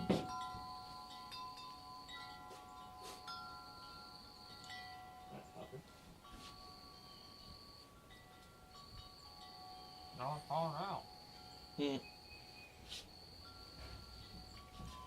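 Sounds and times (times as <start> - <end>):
metal wind chimes ringing: 0.0 - 15.0.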